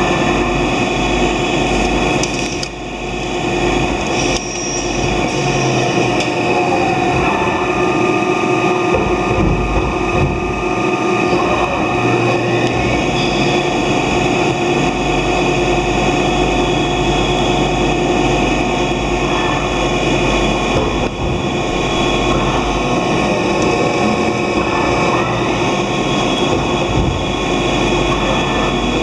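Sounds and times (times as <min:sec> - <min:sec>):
lathe machine hum: 0:00.0 - 0:29.0
low machine rumble: 0:00.0 - 0:29.0.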